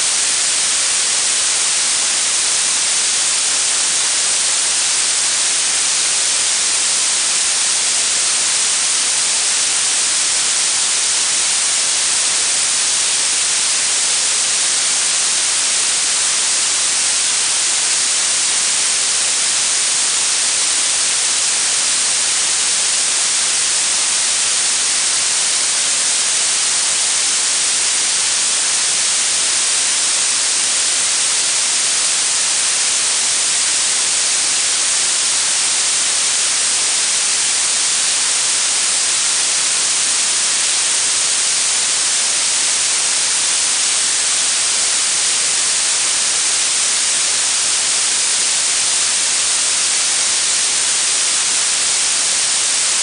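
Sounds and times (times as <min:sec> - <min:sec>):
synthetic blue noise hiss: 0:00.0 - 0:53.0.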